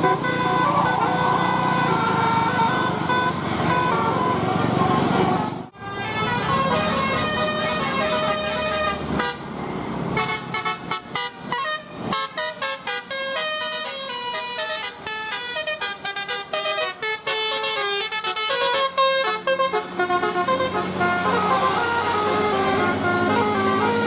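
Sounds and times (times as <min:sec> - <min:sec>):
musical bus air horn melody: 0:00.0 - 0:24.0.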